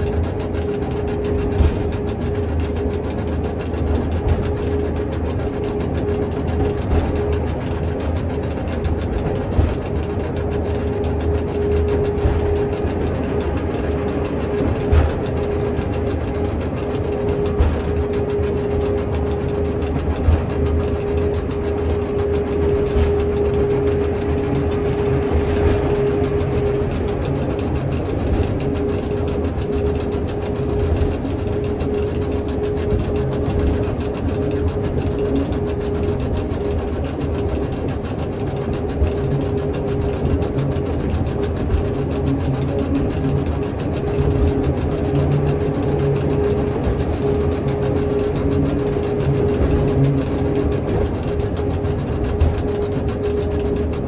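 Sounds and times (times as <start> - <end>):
railcar motors and wheels rumbling: 0.0 - 54.0
steady high whine: 0.0 - 54.0.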